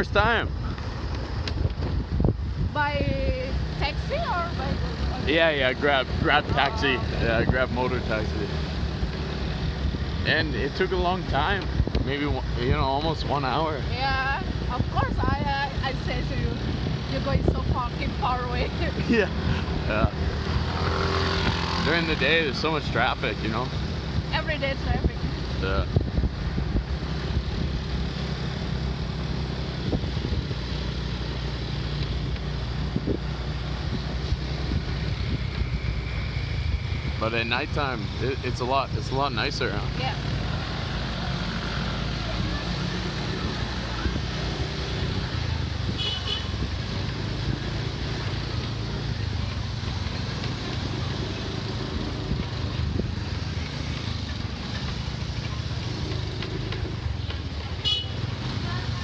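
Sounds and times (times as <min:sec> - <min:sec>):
road and wind noise: 0:00.0 - 0:59.0
vehicle engine hum: 0:00.0 - 0:59.0.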